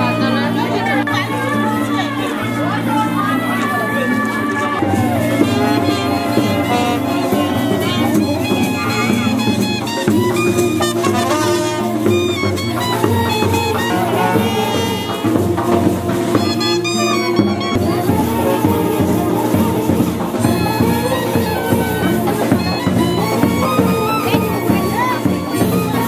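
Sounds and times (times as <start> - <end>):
instrumental background music: 0.0 - 26.0.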